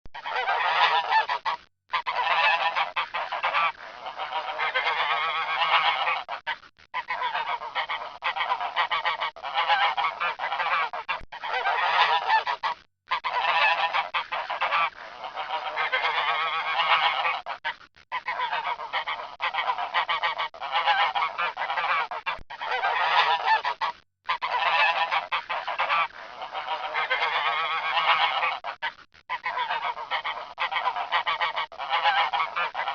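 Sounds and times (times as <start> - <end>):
swans calling: 0.2 - 32.9.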